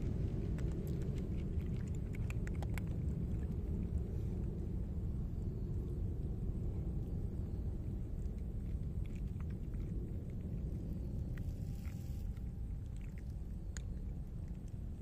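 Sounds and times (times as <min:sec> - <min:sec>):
cats crunching dry kibble: 0:00.0 - 0:05.9, 0:06.9 - 0:15.0
steady low rumble: 0:00.0 - 0:15.0.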